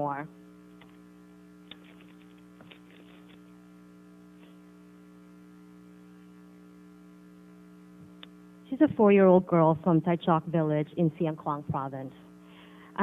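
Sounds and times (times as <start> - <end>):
sound system electrical hum: 0.0 - 13.0.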